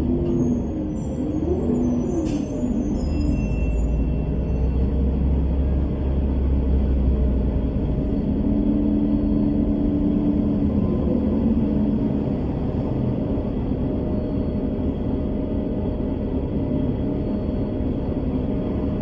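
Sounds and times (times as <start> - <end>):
bus engine and road rumble: 0.0 - 19.0
humming engine note: 0.0 - 19.0.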